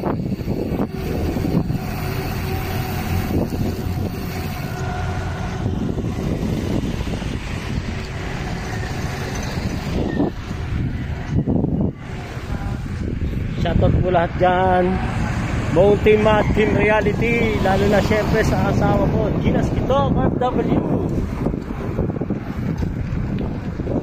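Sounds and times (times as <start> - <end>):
motor traffic: 0.0 - 24.0
wind rumble on microphone: 0.0 - 24.0.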